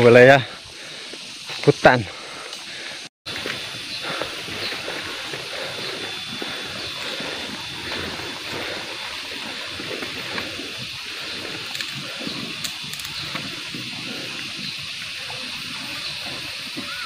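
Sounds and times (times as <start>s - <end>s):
steady rushing hiss: 0.0s - 17.0s
footsteps on dirt path: 0.6s - 17.0s
faint high whine: 3.3s - 17.0s.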